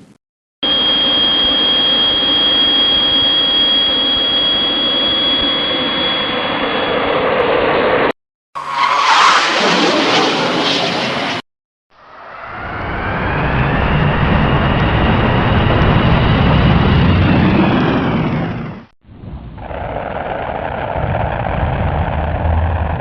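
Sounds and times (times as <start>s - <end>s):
aircraft sound with falling pitch: 0.6s - 23.0s
jet engine whining: 0.6s - 23.0s.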